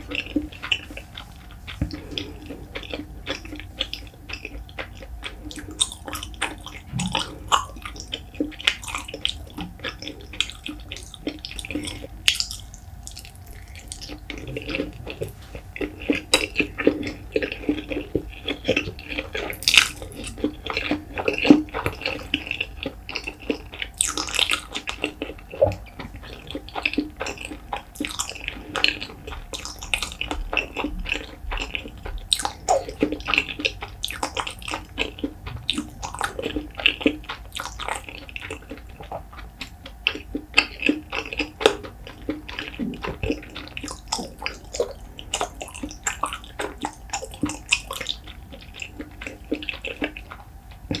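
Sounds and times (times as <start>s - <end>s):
wet chewing mouth clicks: 0.0s - 51.0s.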